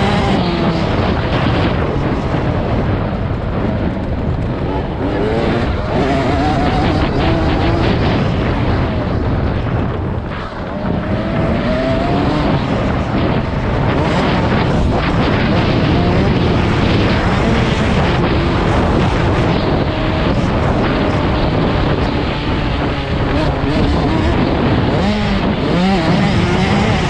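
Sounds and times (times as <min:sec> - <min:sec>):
motocross bike engine revving: 0:00.0 - 0:03.8, 0:04.4 - 0:09.8, 0:10.6 - 0:27.0
wind rushing on microphone: 0:00.0 - 0:27.0.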